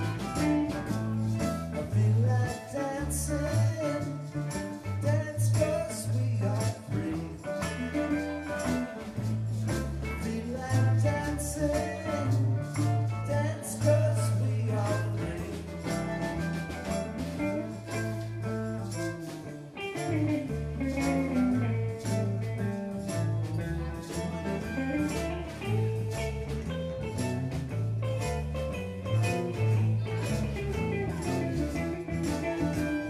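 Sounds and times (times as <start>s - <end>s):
live reggae band playing: 0.0s - 33.0s.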